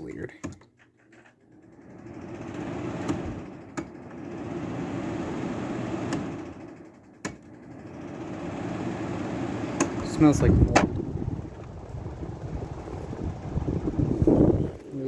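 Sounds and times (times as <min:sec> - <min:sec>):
air conditioner fan whirring: 0:00.0 - 0:15.0.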